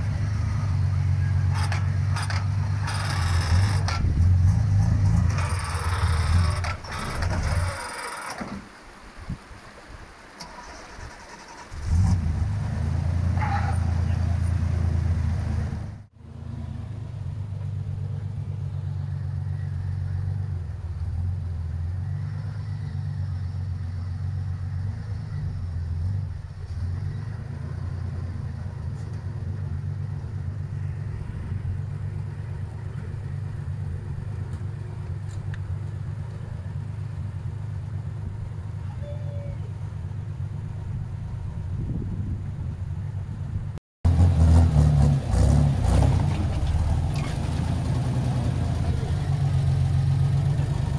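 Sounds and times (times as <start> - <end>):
engine running at low revs: 0.0 - 8.4, 11.7 - 50.9.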